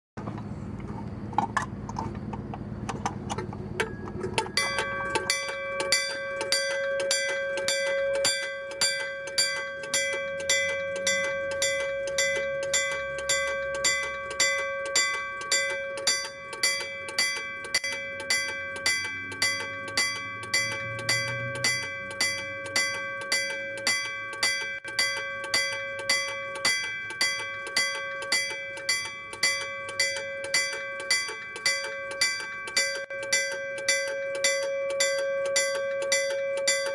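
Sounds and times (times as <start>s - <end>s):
level-crossing bell ringing: 3.8s - 36.9s.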